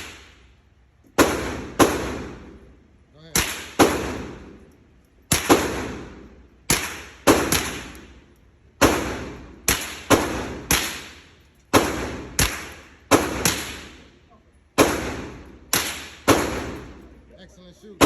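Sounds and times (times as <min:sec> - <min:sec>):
rifle shots with echo: 0:01.1 - 0:04.7, 0:05.3 - 0:17.3.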